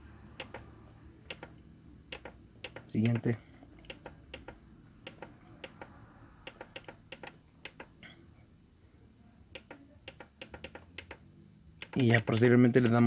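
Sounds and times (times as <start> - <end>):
synthesizer buttons clicking: 0.3 - 8.0, 9.5 - 11.2, 11.8 - 13.0.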